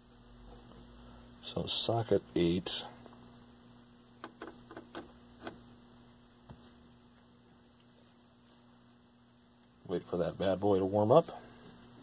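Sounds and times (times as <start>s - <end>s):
faint mains hum: 0.0s - 12.0s.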